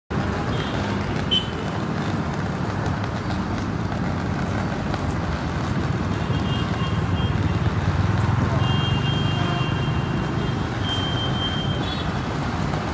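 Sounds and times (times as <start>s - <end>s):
road traffic rumble: 0.1s - 12.9s.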